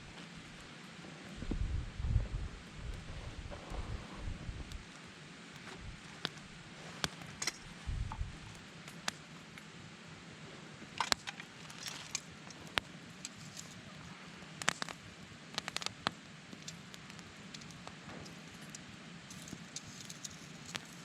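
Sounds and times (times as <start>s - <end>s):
wood fire crackling and popping: 0.0s - 9.8s, 10.8s - 21.0s.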